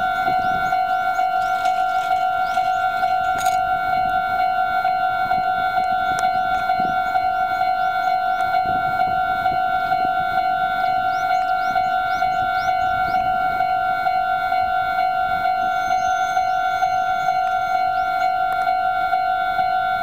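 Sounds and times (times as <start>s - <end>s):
level crossing alarm bell: 0.0s - 20.0s.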